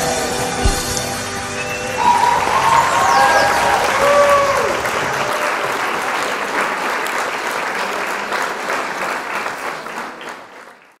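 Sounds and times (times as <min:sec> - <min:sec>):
crowd applauding: 0:01.9 - 0:11.0.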